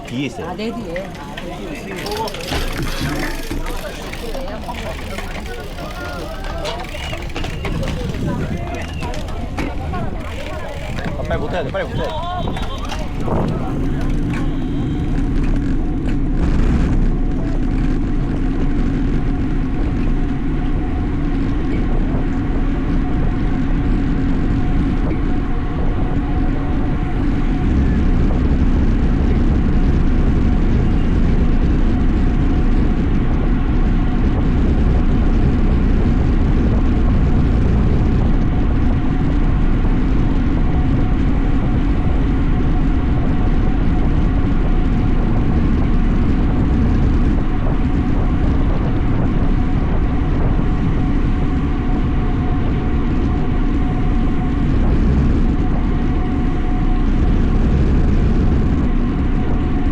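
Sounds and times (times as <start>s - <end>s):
faint bike hum: 0.0s - 59.9s
wind rumble on microphone: 0.0s - 59.9s.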